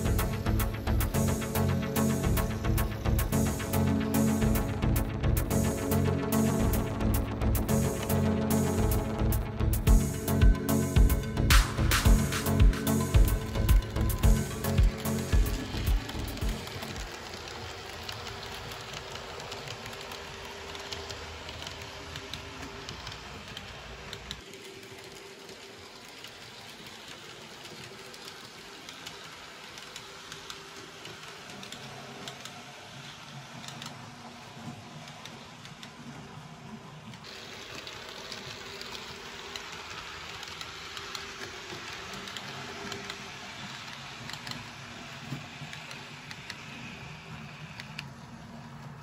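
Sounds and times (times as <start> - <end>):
model train motor whirring: 0.0 - 49.0.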